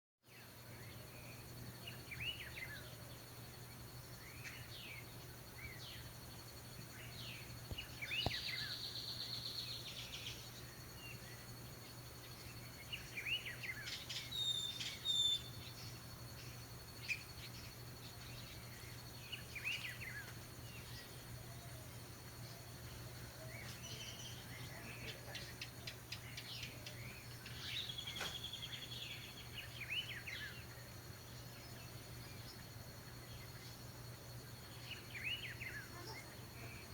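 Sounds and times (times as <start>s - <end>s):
orioles calling: 0.4s - 36.9s.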